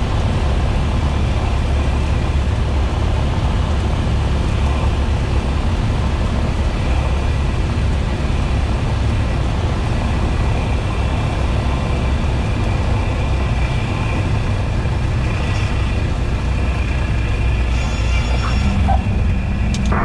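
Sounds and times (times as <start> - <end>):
airplane engine and propeller: 0.0 - 20.0.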